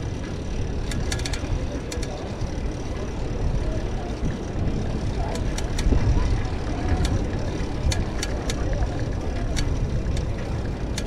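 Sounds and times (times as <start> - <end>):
bicycle tyres rumbling on bricks: 0.0 - 11.0
wind buffeting microphone: 0.0 - 11.0.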